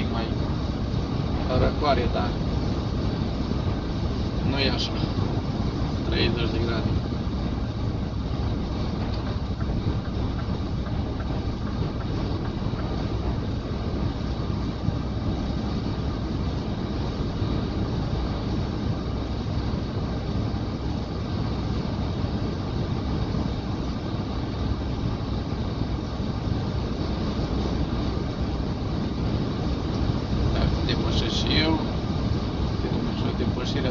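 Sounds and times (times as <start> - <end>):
truck road and engine drone: 0.0 - 33.9.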